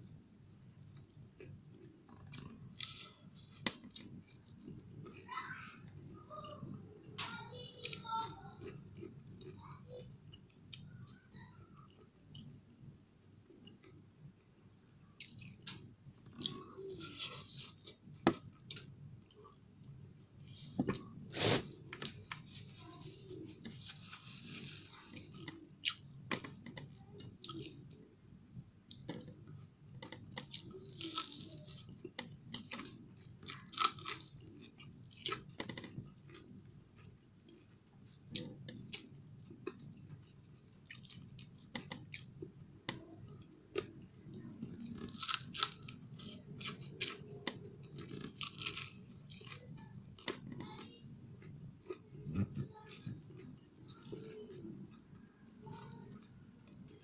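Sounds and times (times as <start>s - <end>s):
person chewing crispy food: 0.9s - 57.0s.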